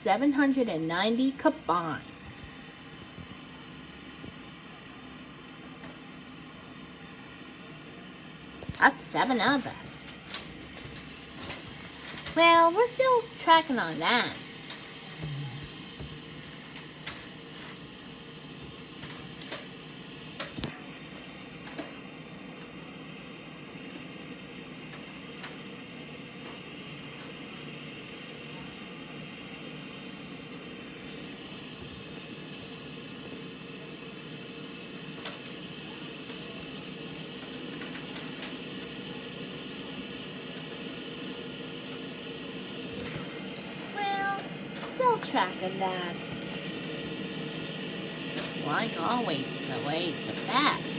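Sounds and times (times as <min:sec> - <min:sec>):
combine harvester hum: 0:00.0 - 0:50.9.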